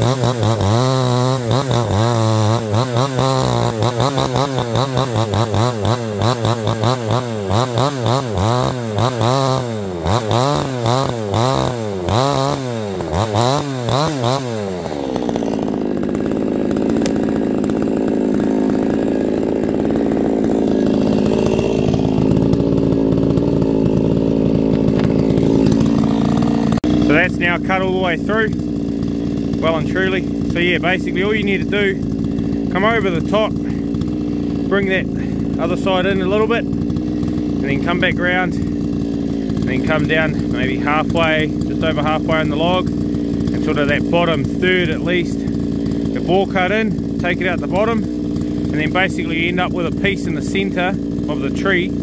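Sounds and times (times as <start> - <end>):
chainsaw cutting log: 0.0 - 52.0
chainsaw idling: 0.0 - 52.0.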